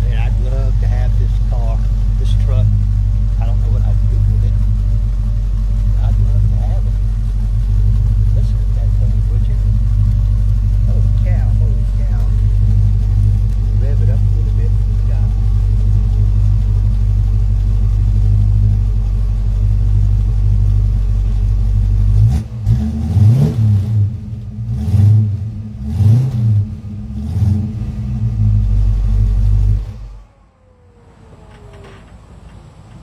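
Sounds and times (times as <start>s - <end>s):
engine idling and revving: 0.0s - 33.0s.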